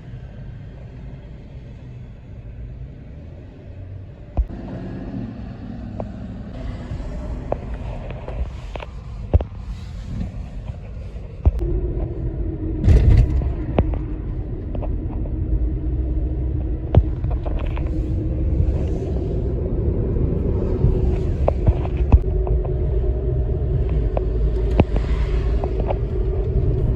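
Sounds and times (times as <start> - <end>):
vehicle engine hum: 0.0 - 26.9.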